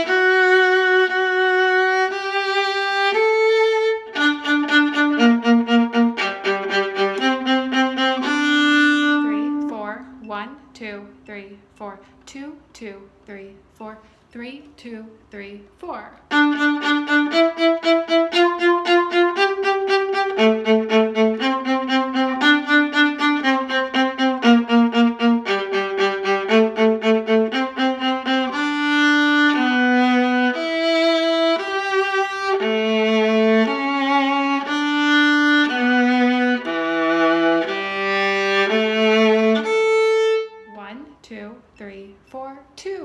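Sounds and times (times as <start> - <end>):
bowed strings playing: 0.0 - 12.0, 16.3 - 41.2.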